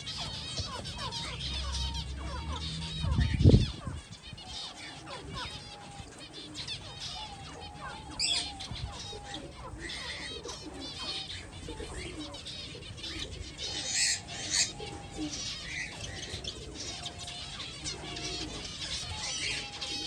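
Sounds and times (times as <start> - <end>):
finches chirping and calling: 0.0 - 20.0.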